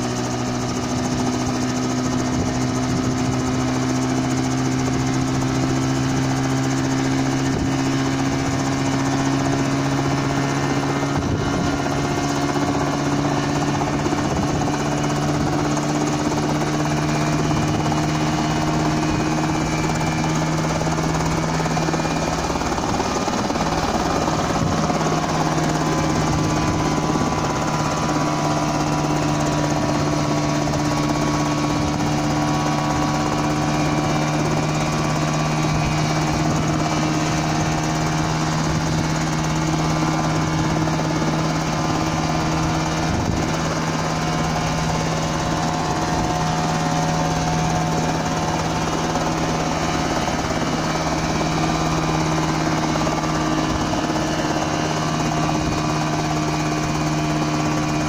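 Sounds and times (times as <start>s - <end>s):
helicopter engine and rotors droning: 0.0s - 58.0s.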